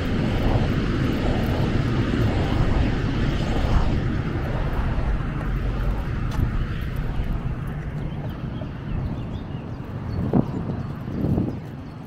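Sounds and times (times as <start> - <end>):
wind blowing across microphone: 0.0 - 12.0.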